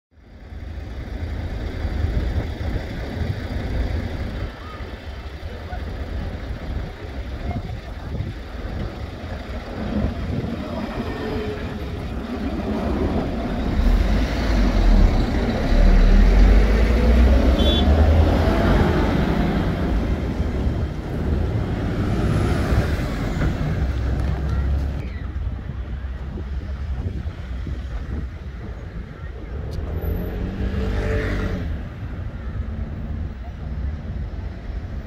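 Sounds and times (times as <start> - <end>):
tram passing rumble: 0.1 - 35.0.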